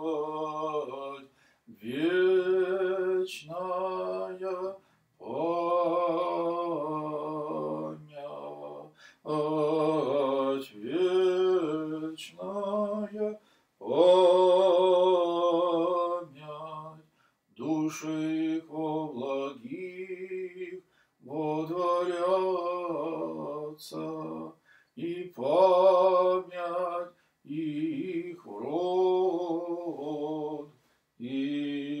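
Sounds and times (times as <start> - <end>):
man chanting: 0.0 - 17.0, 17.6 - 32.0.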